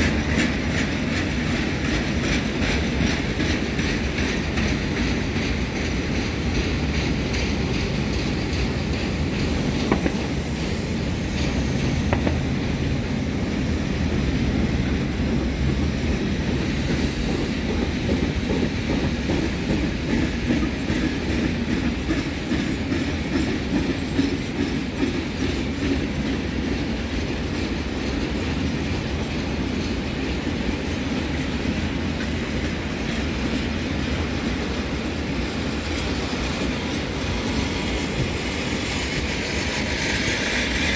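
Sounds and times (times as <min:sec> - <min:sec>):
freight train wheels on rails: 0:00.0 - 0:40.9.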